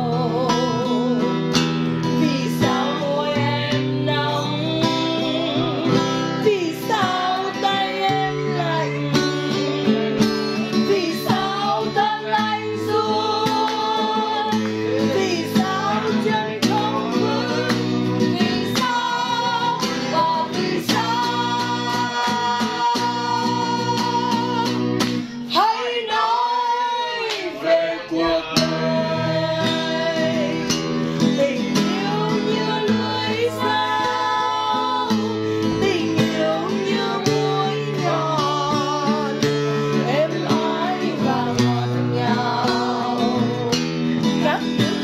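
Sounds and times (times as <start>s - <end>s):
acoustic guitar strumming: 0.0s - 45.0s
woman singing: 0.0s - 45.0s.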